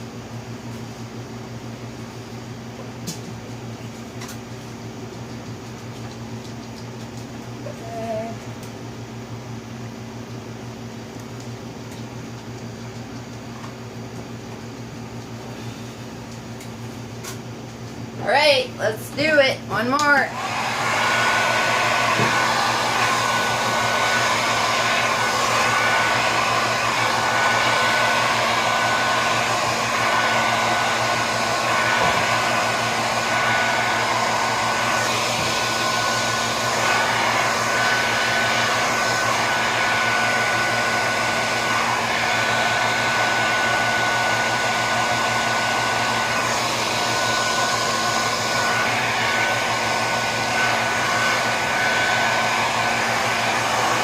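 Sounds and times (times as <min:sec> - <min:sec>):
blow-dryer running: 0:00.0 - 0:54.0.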